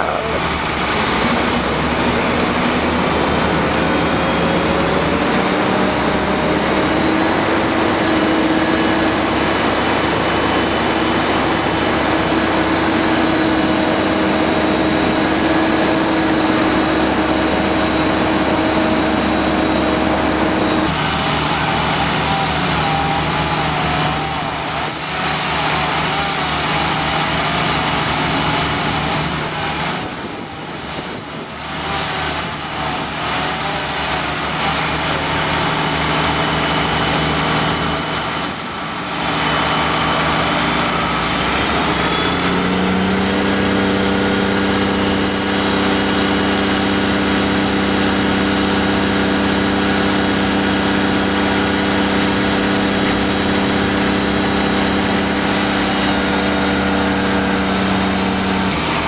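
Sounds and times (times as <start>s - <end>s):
engines running: 0.0s - 59.0s.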